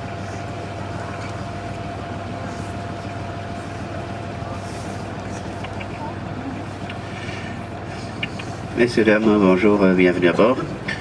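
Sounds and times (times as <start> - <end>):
boat motor humming with whine: 0.0 - 11.0.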